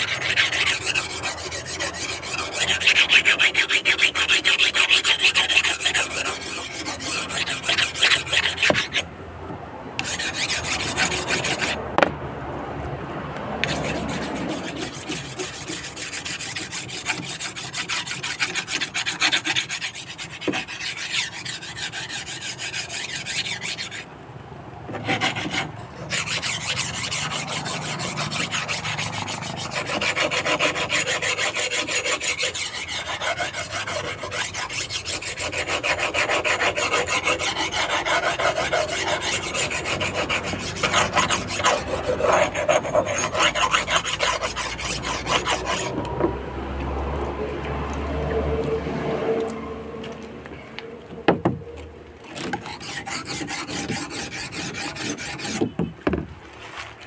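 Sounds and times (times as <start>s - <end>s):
blade scraping on sharpener: 0.0s - 9.1s, 10.0s - 11.8s, 13.6s - 24.1s, 24.9s - 46.2s, 52.3s - 55.8s.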